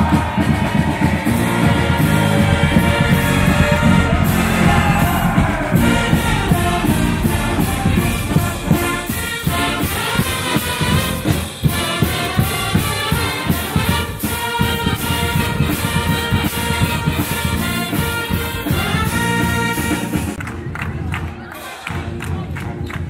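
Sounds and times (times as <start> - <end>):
brass band playing: 0.0 - 20.4
drum kit beat: 0.0 - 20.4.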